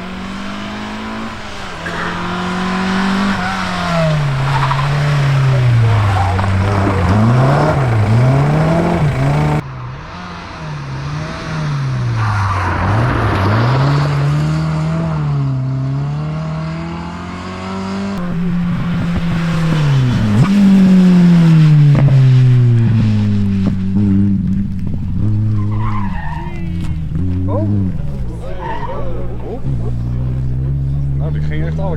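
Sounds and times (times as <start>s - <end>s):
rally car engines revving: 0.0s - 31.9s.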